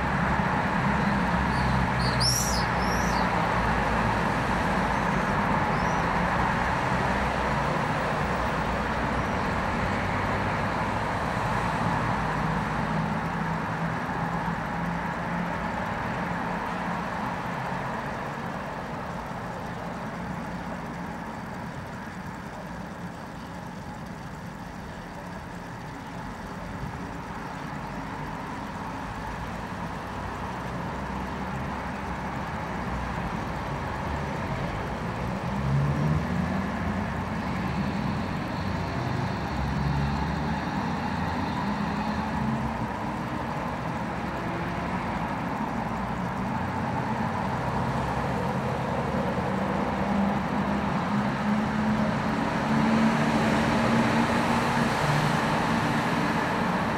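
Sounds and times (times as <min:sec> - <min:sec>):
road traffic noise: 0:00.0 - 0:56.9.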